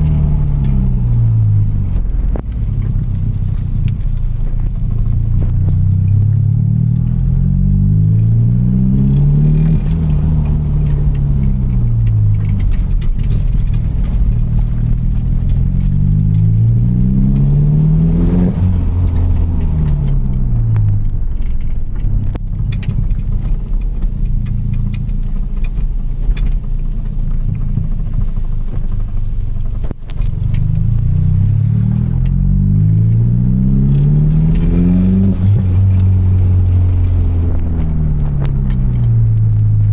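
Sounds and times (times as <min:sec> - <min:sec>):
loud car engine revving: 0:00.0 - 0:39.9.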